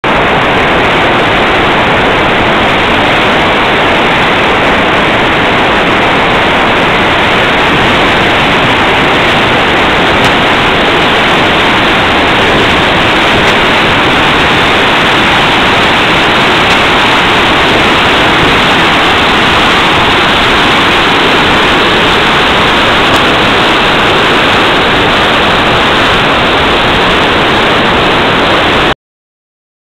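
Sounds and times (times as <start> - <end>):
loud rapids rushing: 0.0 - 29.0.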